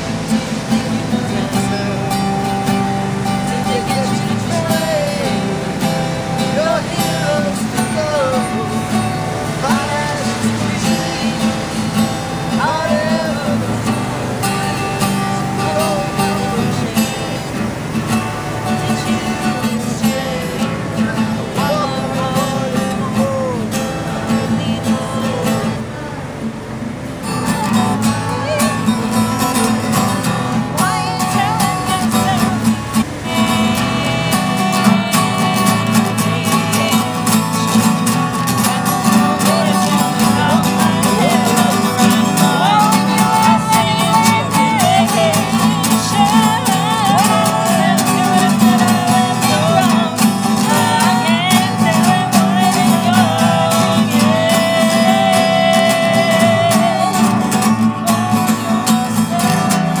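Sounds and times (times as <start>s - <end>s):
acoustic guitar music: 0.0s - 60.0s
wavering melody line: 0.0s - 60.0s.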